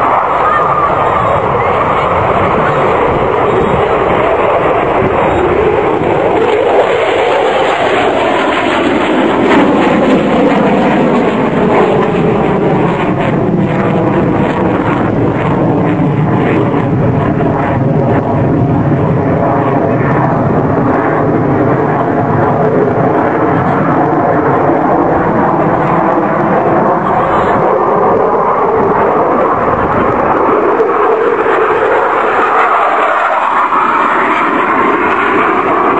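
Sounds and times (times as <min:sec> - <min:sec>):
jet aircraft flying past: 0:00.0 - 0:35.9.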